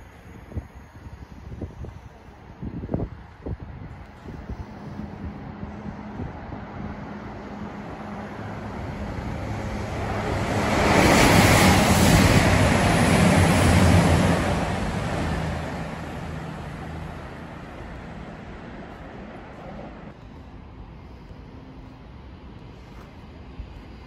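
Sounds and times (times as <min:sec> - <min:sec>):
passenger train rushing past: 0:00.0 - 0:20.4.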